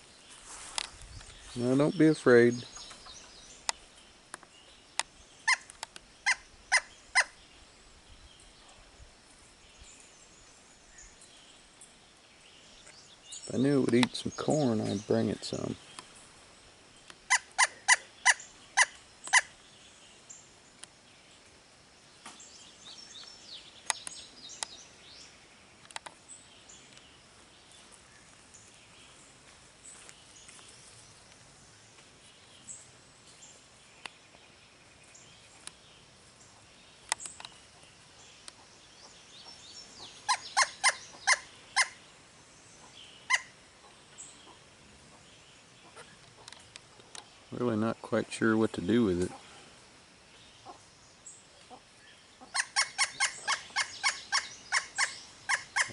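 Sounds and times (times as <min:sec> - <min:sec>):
small birds chirping: 0:00.0 - 0:55.9
woodpecker calling: 0:00.8 - 0:09.5, 0:10.2 - 0:21.1, 0:22.2 - 0:27.2, 0:33.5 - 0:55.9.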